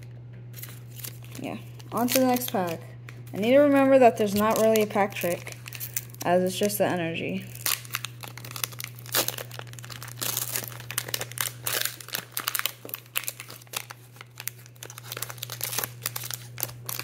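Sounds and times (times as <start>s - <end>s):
steady low hum: 0.0s - 17.0s
foil wrapper tearing and crinkling: 0.5s - 6.8s, 7.4s - 17.0s.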